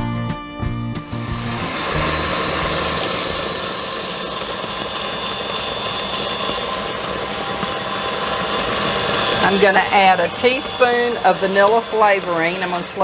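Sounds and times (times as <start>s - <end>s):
stand mixer running at high speed: 1.1s - 13.0s.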